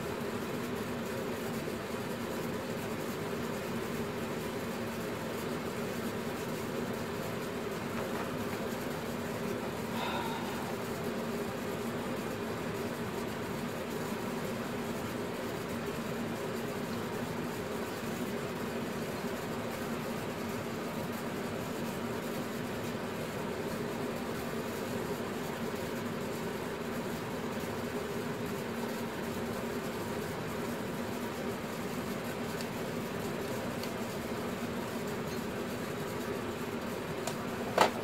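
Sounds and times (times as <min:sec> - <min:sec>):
mechanical hum with hiss: 0:00.0 - 0:38.0.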